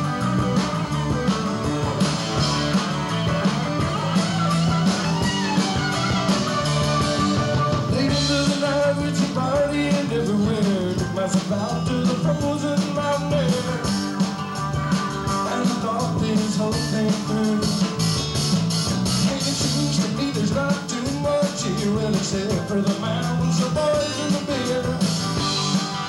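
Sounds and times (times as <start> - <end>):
drums keeping a steady beat: 0.0 - 26.0
live rock band playing: 0.0 - 26.0.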